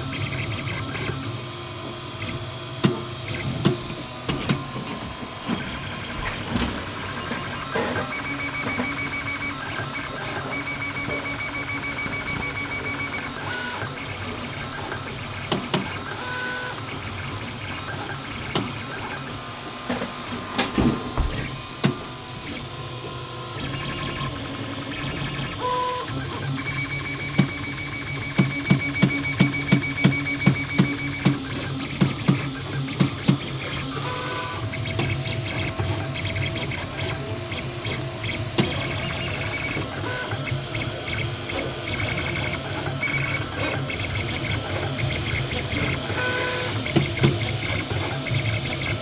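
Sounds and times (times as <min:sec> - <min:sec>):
stepper motors whining: 0:00.1 - 0:49.0.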